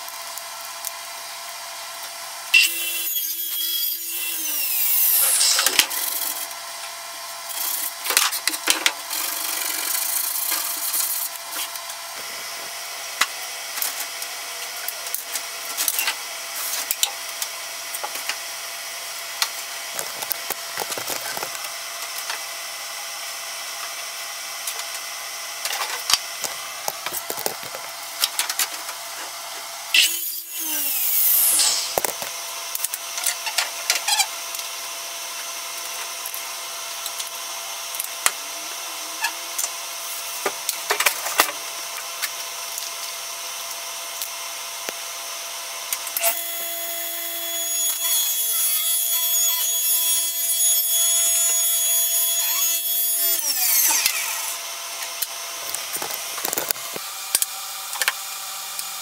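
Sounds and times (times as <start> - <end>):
radial arm saw cutting: 1.6 - 59.0.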